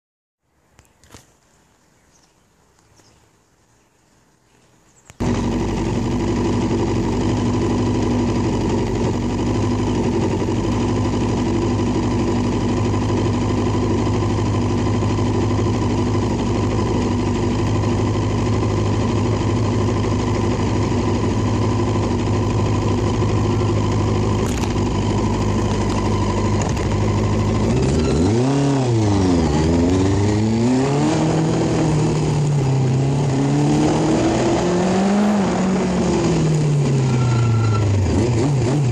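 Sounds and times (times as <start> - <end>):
small motorbike engine idling and revving: 5.2 - 38.9.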